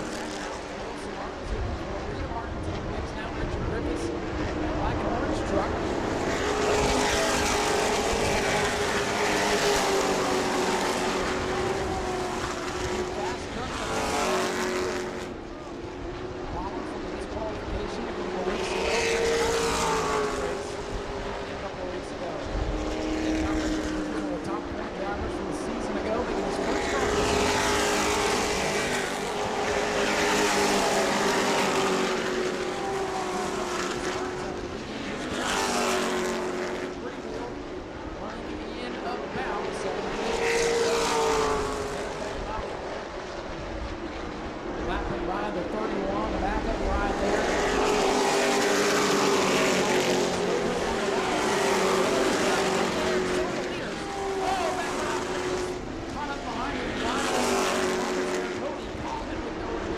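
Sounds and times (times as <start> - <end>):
race truck engines at high revs: 0.0 - 59.9.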